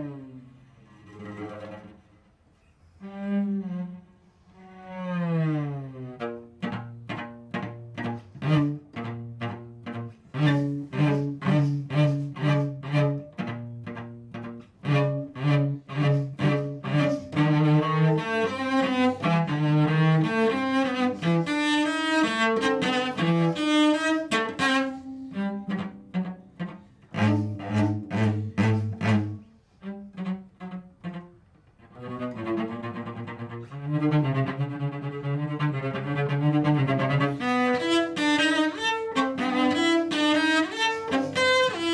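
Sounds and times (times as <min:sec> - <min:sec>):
solo cello bowed: 0:00.0 - 0:41.9.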